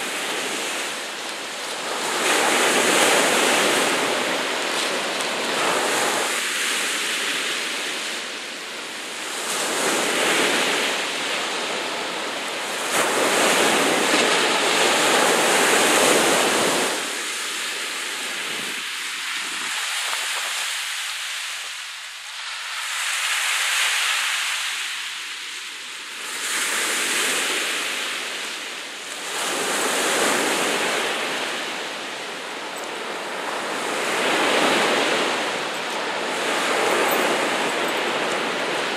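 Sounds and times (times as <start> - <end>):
sea waves breaking: 0.0 - 24.7, 26.2 - 38.9.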